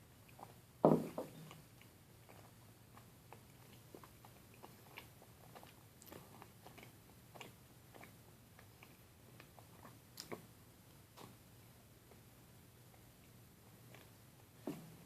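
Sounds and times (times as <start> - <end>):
person chewing with wet smacks: 0.1 - 15.0.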